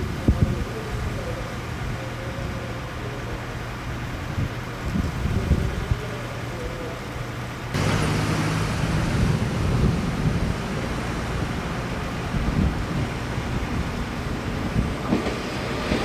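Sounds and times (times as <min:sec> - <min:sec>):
electric train hum: 0:00.0 - 0:16.0
train running noise with drone: 0:00.0 - 0:16.0.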